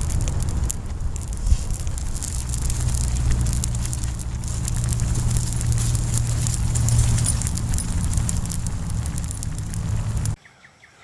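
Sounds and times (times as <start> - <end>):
campfire crackling: 0.0 - 10.4
steady low rumble: 0.0 - 10.4.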